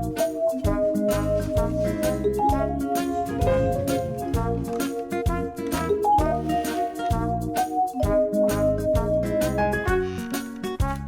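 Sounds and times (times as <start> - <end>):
steady drum beat: 0.0 - 10.2
upbeat jazzy tune with mallets: 0.0 - 11.0.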